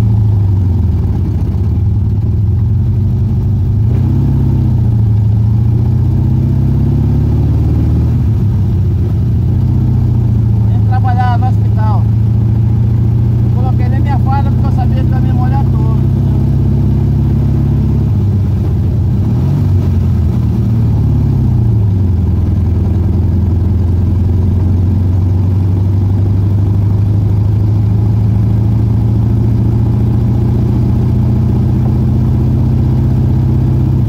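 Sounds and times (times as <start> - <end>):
car engine droning inside cabin: 0.0 - 34.0.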